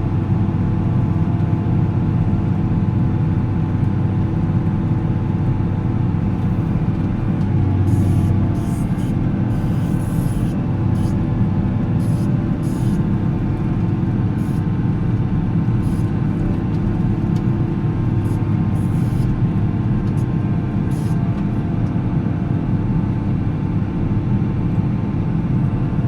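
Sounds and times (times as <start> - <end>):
diesel engine rumbling: 0.5 - 22.1.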